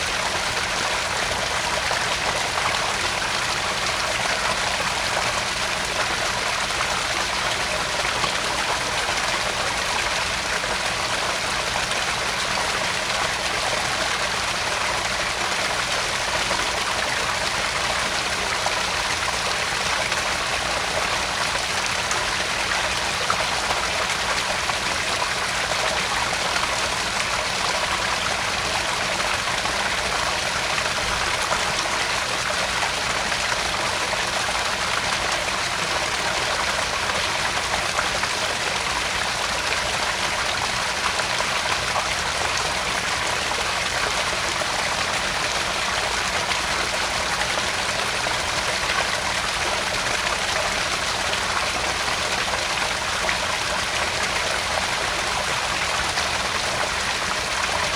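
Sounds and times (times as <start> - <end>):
water splashing into pond: 0.0 - 57.9.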